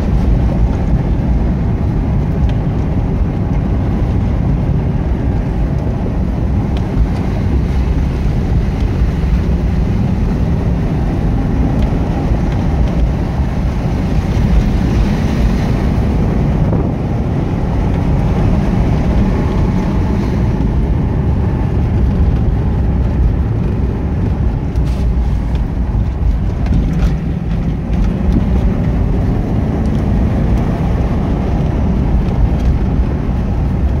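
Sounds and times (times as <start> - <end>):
car engine pulling: 0.0 - 34.0
road noise: 0.0 - 34.0.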